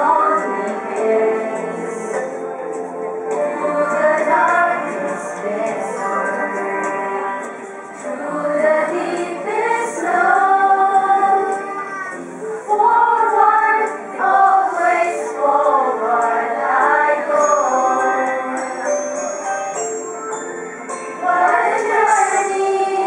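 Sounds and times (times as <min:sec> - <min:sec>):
women's choir singing: 0:00.0 - 0:02.2, 0:03.4 - 0:11.6, 0:12.7 - 0:19.1, 0:21.2 - 0:23.0.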